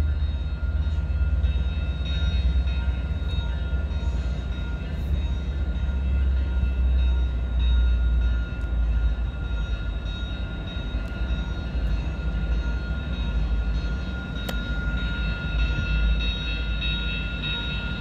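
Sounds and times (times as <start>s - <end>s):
train locomotive rumbling: 0.0s - 18.0s.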